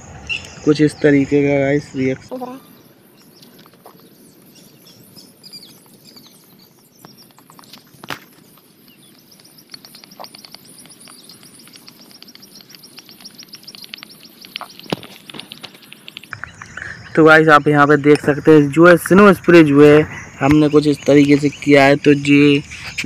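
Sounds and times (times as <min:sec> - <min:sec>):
small birds chirping: 0:00.0 - 0:23.0
fast trill of high chirps: 0:00.2 - 0:22.7.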